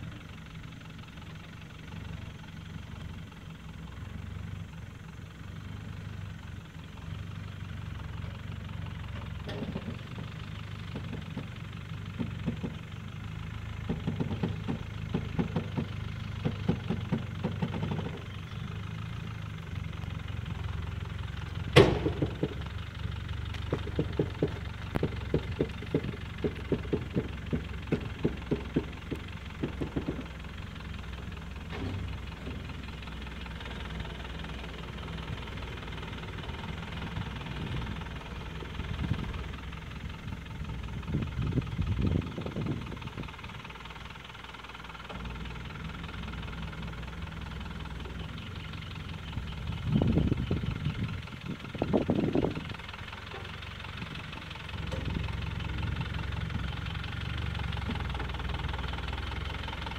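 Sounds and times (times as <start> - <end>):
engine running at low revs: 0.0 - 59.9.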